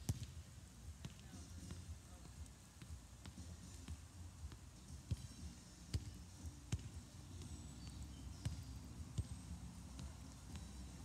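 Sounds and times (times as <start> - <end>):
soccer ball thuds: 0.0 - 11.0.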